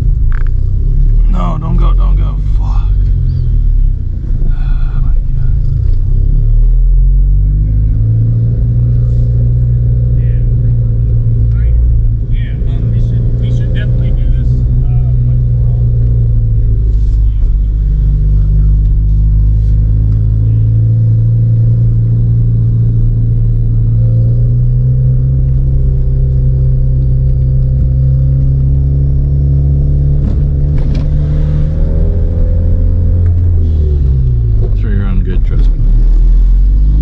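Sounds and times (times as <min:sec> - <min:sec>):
car engine pulling under load: 0:00.0 - 0:37.0.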